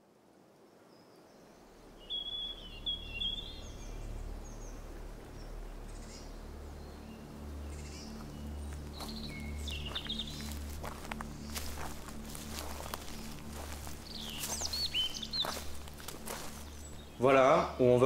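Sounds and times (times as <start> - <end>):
birds chirping: 1.1 - 18.0
low steady hum: 1.6 - 18.0.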